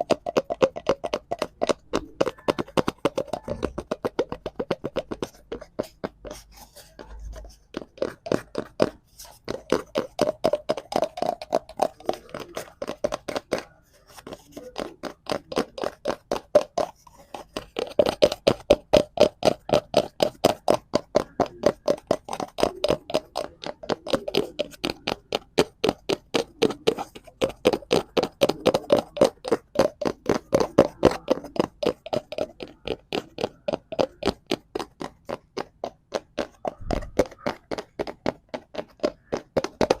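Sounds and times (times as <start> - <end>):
fingers tapping on hollow cardboard: 0.0 - 40.0.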